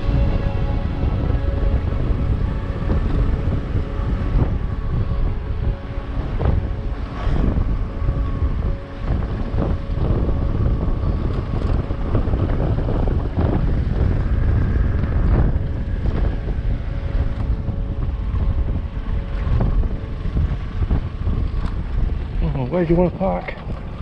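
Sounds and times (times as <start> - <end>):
scooter engine whine: 0.0 - 22.6
wind rumbling on microphone: 0.0 - 24.0.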